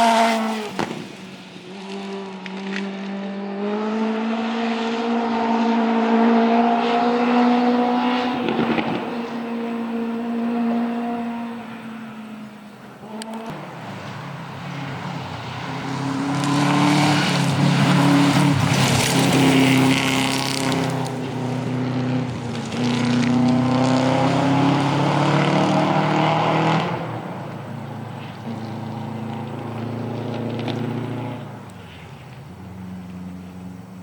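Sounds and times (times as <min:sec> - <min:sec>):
rally car engine at full throttle: 0:00.0 - 0:34.0.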